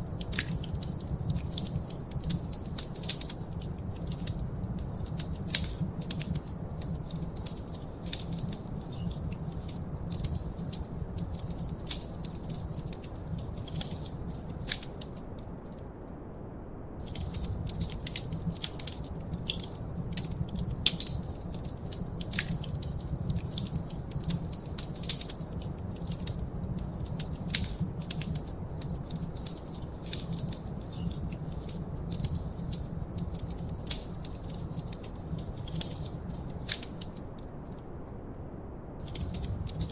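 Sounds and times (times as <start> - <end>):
wood fire crackling and popping: 0.0 - 15.8, 17.0 - 38.0, 39.0 - 39.9.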